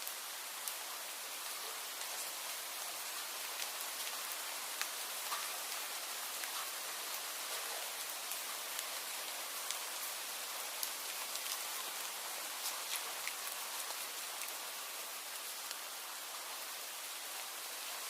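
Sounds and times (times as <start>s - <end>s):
rain hissing: 0.0s - 18.0s
raindrops ticking on a surface: 0.0s - 18.0s.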